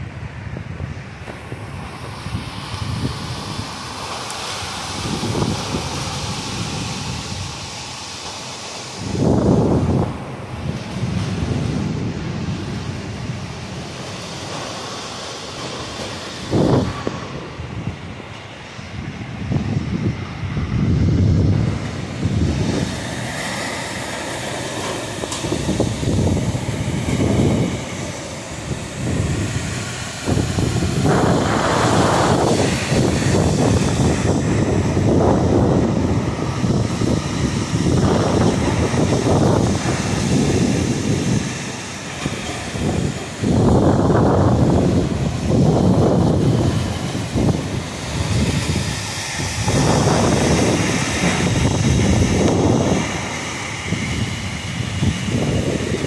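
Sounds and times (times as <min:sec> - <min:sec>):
heavy rain hiss: 0:00.0 - 0:56.0
storm wind buffeting microphone: 0:00.0 - 0:56.0.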